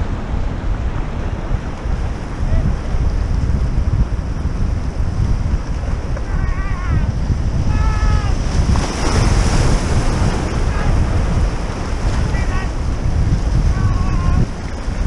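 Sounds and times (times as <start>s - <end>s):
surf washing among rocks: 0.0s - 15.0s
wind buffeting microphone: 0.0s - 15.0s.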